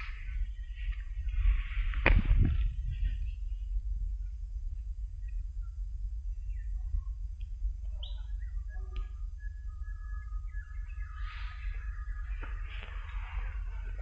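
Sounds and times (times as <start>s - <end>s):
small birds chirping and whistling: 0.0s - 4.4s, 5.0s - 14.0s
steady low rumble: 0.0s - 14.0s.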